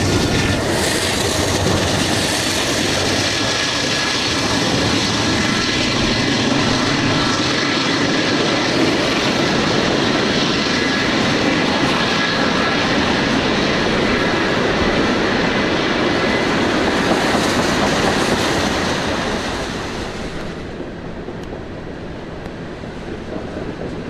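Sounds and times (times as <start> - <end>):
steel wheels on track: 0.0 - 24.0.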